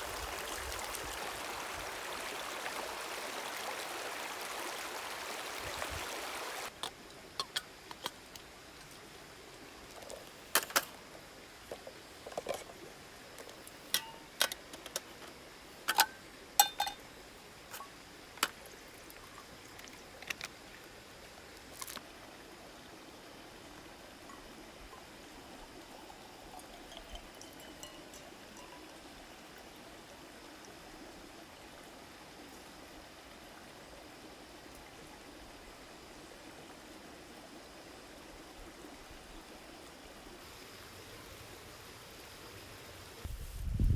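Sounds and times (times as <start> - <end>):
faint steady hiss: 0.0 - 43.9.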